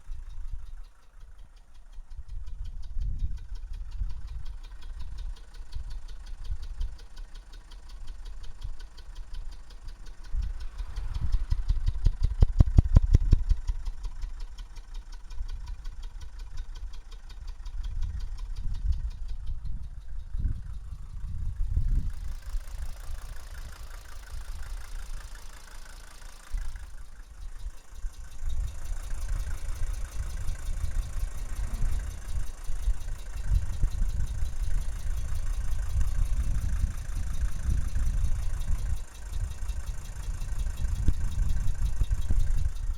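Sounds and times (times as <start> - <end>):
diesel engine idling: 0.0 - 42.9
rhythmic exhaust pulsing: 0.0 - 42.9.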